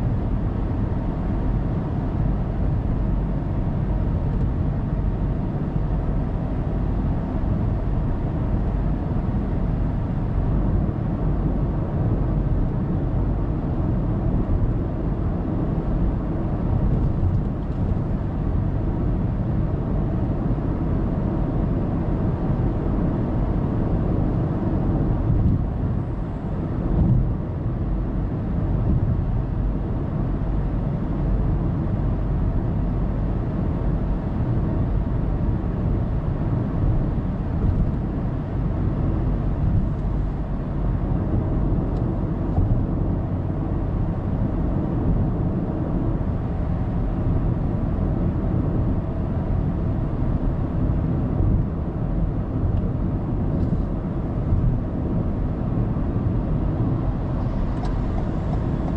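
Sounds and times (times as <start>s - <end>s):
car road rumble inside cabin: 0.0s - 58.9s.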